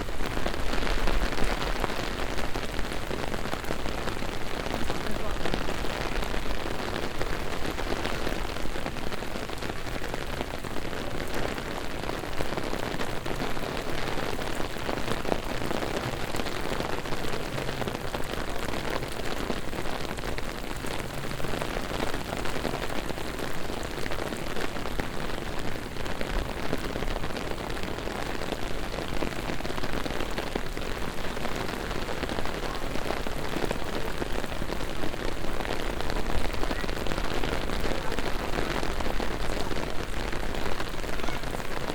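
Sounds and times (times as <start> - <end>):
heavy rain on street: 0.0 - 41.9.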